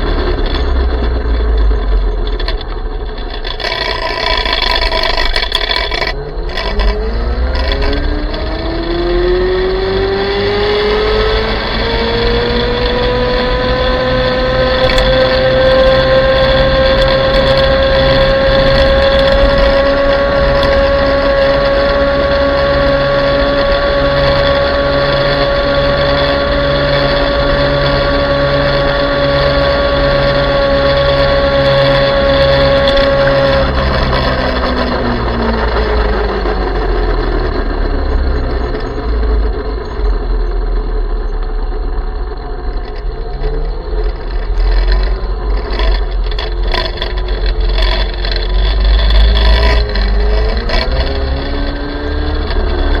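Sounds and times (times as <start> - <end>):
electric motor whining: 0.0 - 53.0
wind rumble on microphone: 0.0 - 53.0.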